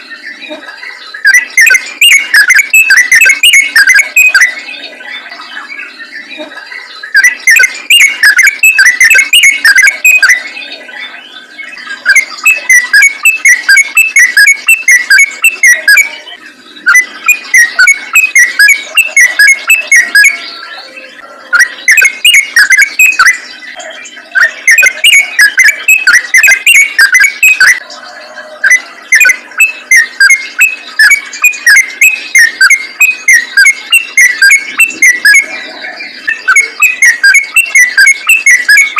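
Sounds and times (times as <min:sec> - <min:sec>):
bulbul song chattering notes: 0:00.0 - 0:38.9.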